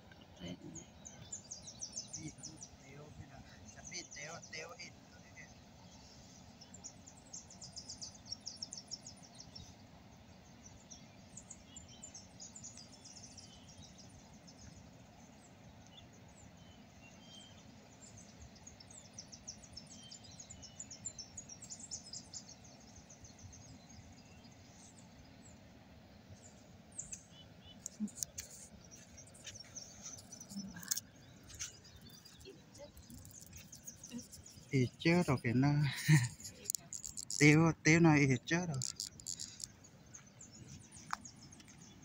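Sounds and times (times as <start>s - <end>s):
small birds chirping and trilling: 0.0s - 42.0s.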